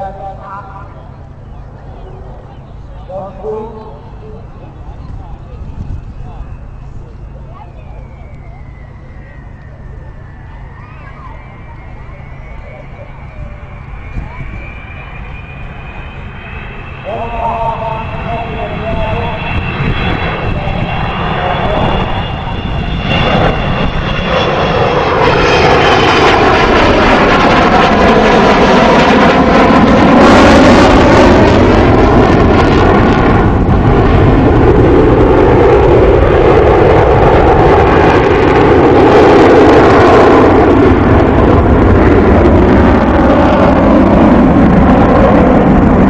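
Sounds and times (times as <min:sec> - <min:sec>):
jet aircraft flying by: 0:00.0 - 0:46.0.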